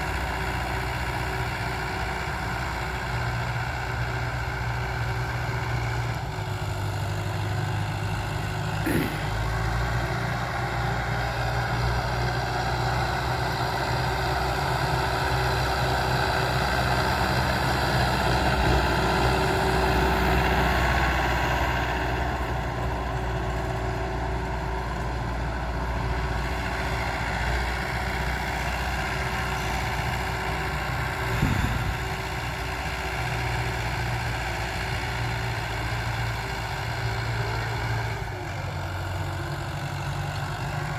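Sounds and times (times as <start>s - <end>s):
diesel tiller engine running: 0.0s - 40.9s.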